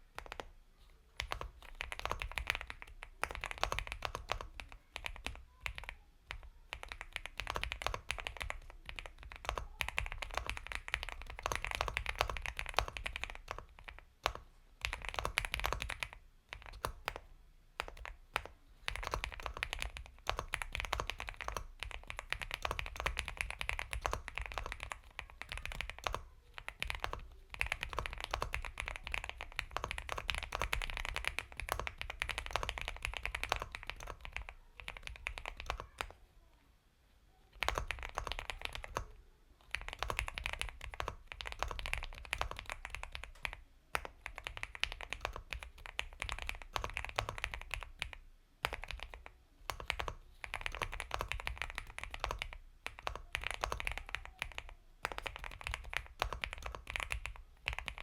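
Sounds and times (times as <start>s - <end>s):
mechanical keyboard typing: 0.0s - 0.5s, 1.2s - 36.2s, 37.5s - 58.0s.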